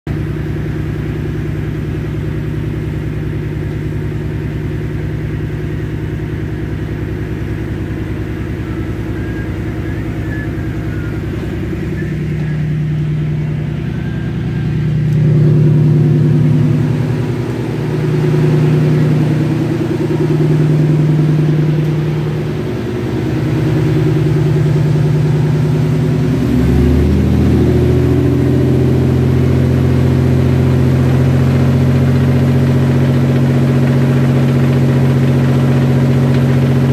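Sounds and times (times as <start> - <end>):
boat diesel engine droning: 0.1 - 36.9.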